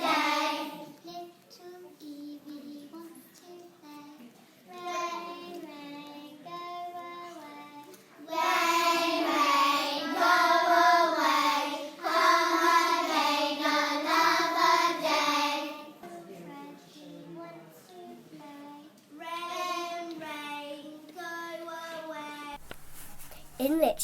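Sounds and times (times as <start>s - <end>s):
children singing together: 0.0s - 22.5s.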